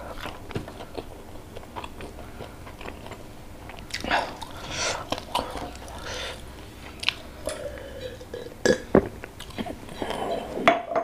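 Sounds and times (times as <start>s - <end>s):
close-up chewing: 0.0s - 10.7s.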